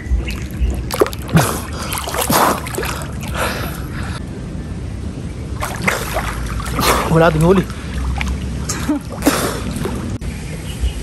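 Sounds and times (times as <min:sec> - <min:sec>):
water splashing and sloshing: 0:00.0 - 0:04.2, 0:05.4 - 0:10.2.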